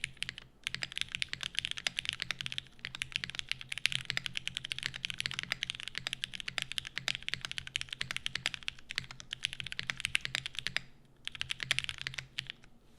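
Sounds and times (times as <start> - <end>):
fast mechanical keyboard typing: 0.0 - 12.7.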